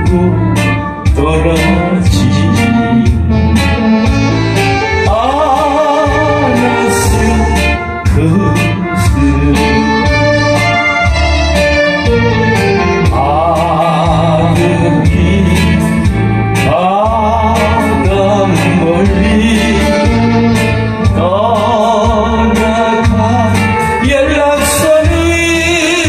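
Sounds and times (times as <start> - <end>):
backing track with bass beat: 0.0 - 26.0
person singing with vibrato: 0.0 - 26.0.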